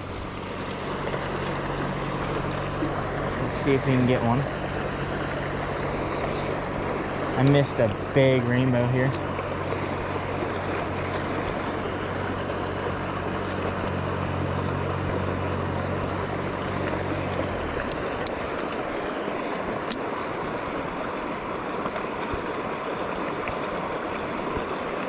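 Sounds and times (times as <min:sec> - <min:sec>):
creek rushing over stones: 0:00.0 - 0:25.0
low hum: 0:00.0 - 0:25.0.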